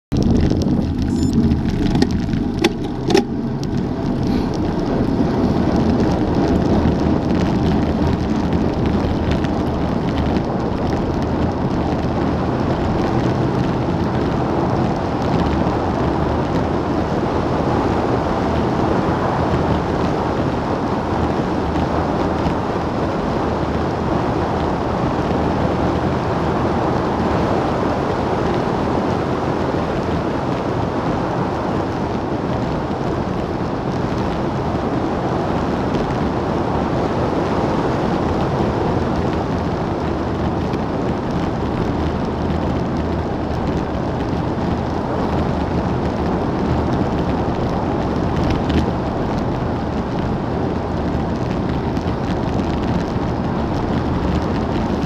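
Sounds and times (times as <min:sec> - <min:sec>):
wind rushing over microphone: 0:00.1 - 0:55.0.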